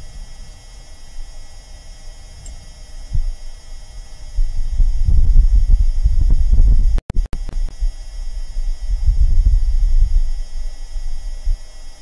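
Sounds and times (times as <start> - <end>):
wind buffeting a microphone: 1.2 - 12.0.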